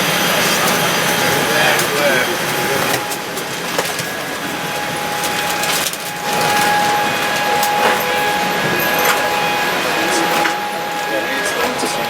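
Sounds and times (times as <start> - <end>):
air-conditioning rush: 0.0 - 12.0
steady whine: 0.0 - 12.0
knocks and clatter: 0.4 - 10.9.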